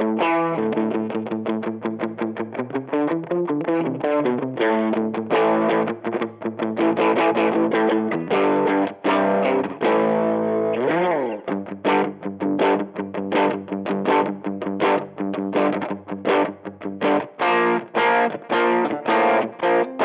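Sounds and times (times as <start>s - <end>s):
distorted electric guitar: 0.0s - 20.0s.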